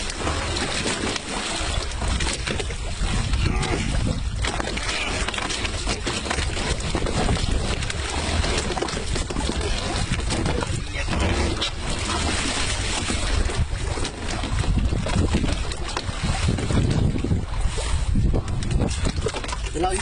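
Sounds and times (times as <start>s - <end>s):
boat engine rumble: 0.0s - 20.0s
water noise: 0.0s - 20.0s
wind buffeting microphone: 0.0s - 20.0s.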